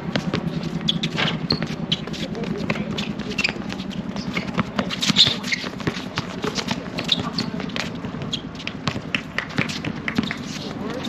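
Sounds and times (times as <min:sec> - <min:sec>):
basketball bouncing: 0:00.0 - 0:11.0
footsteps on court: 0:00.0 - 0:11.0
shoe squeaks: 0:00.0 - 0:11.0.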